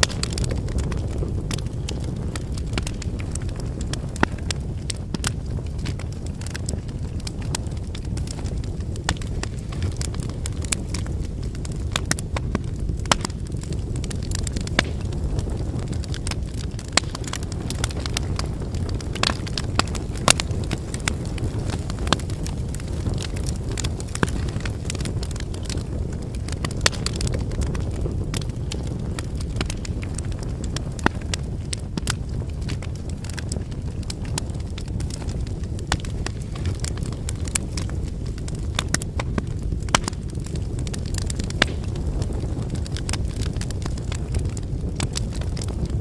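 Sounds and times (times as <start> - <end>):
firewood crackling and popping: 0.0 - 46.0
low rumble of flames: 0.0 - 46.0.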